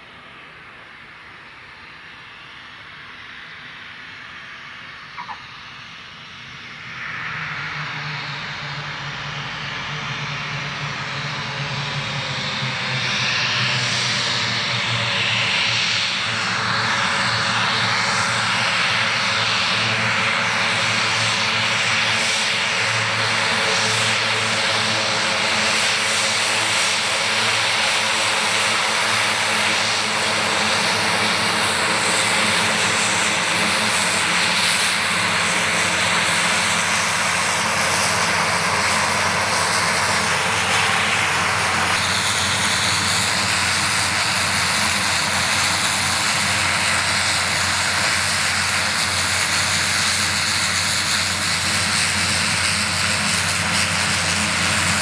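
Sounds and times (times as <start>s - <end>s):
turboprop aircraft taxiing: 0.0s - 55.0s.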